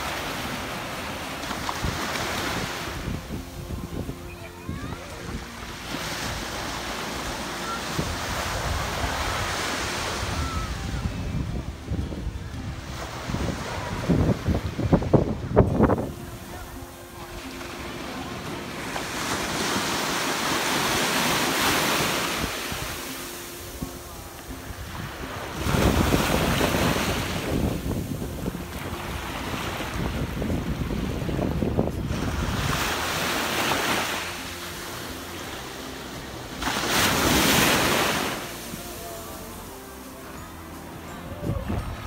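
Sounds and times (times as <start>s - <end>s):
wave washing up a beach: 0.0s - 42.0s.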